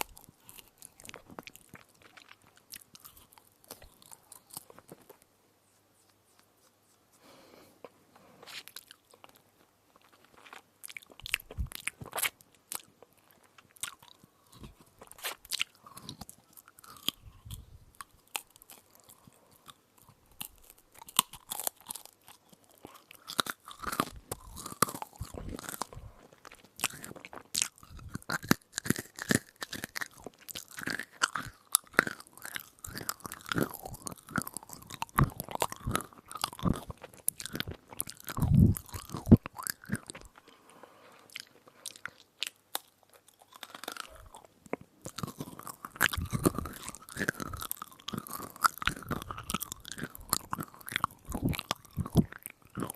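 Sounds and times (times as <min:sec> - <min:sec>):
crunchy chewing: 0:00.0 - 0:52.9.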